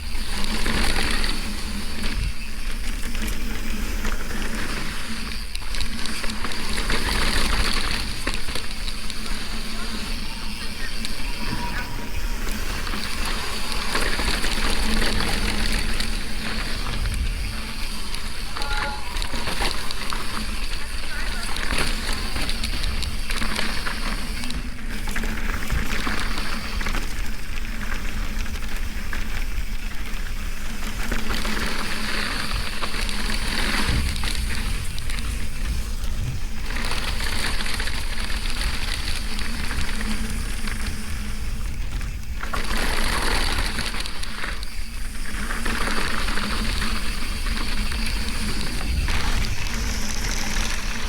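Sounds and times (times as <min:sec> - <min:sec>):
wind rushing over microphone: 0:00.0 - 0:27.6, 0:30.4 - 0:51.0.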